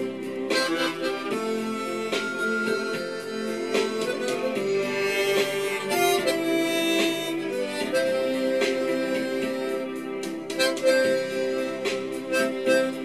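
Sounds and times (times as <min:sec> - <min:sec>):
harmonica slow melody: 0:00.0 - 0:13.0
light beat: 0:00.0 - 0:13.0.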